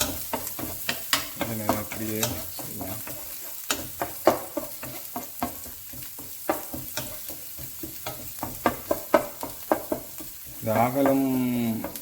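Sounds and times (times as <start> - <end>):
garlic sizzling in oil: 0.0 - 12.0
spatula scraping a pan: 0.0 - 12.0.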